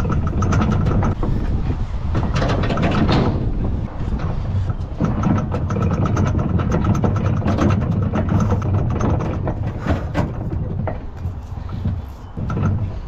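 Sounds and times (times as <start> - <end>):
motor running with clatter: 0.0 - 1.5, 2.2 - 13.0.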